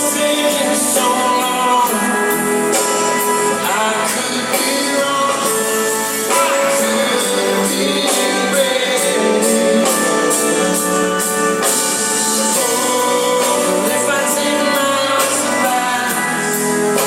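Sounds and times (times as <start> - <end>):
electric guitar: 0.0 - 17.0
rock band playing: 0.0 - 17.0
steady drum beat: 0.0 - 17.0.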